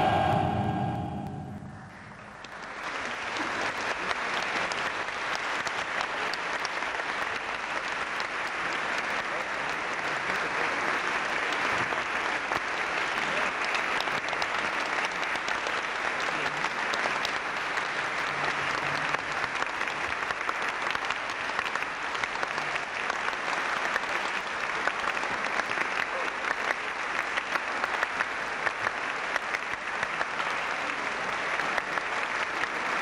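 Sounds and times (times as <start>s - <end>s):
audience applauding: 1.9s - 33.0s.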